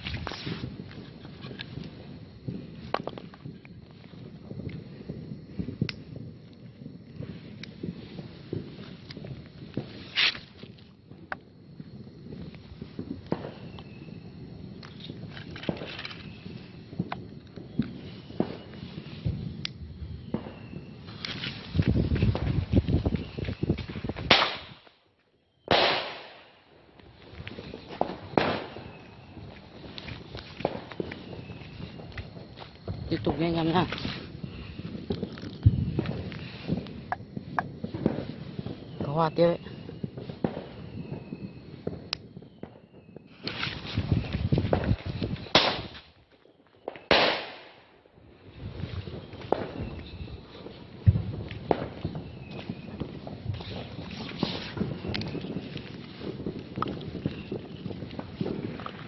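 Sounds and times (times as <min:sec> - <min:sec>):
loud firework bangs: 0:00.0 - 0:24.9, 0:25.6 - 0:59.0
fireworks crackling: 0:00.0 - 0:59.0.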